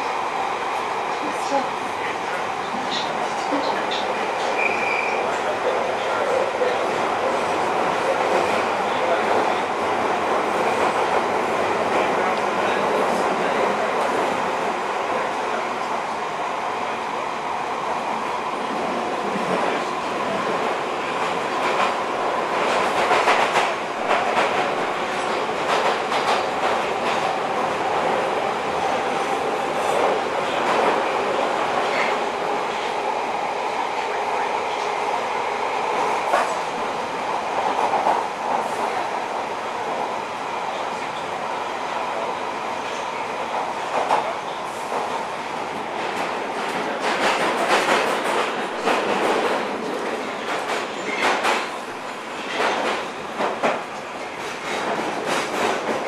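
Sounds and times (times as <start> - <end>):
train rumbling through a tunnel: 0.0 - 56.0.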